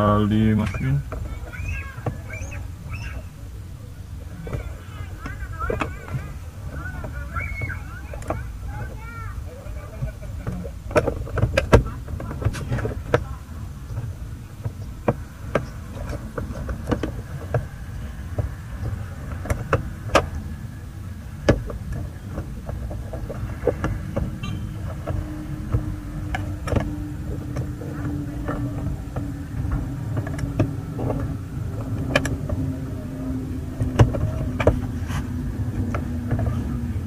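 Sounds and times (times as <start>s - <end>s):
low steady rumble: 0.0s - 37.0s
steady low hum: 0.0s - 37.0s.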